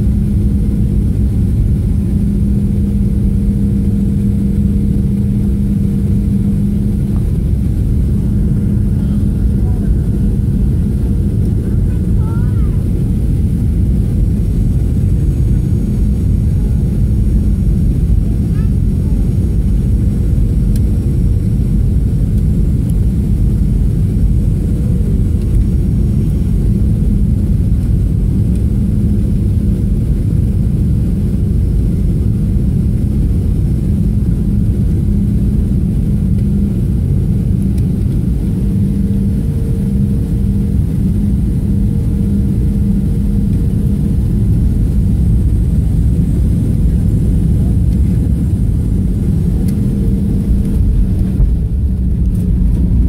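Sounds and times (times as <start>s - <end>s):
airplane cabin rumble: 0.0s - 53.0s
jet engines humming: 0.0s - 53.0s.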